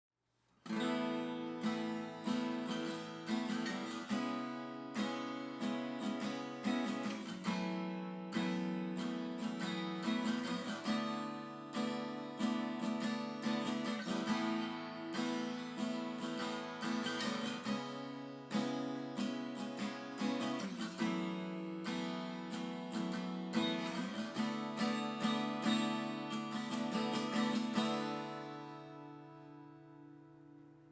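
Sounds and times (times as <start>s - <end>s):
acoustic guitar strumming: 0.6s - 30.9s.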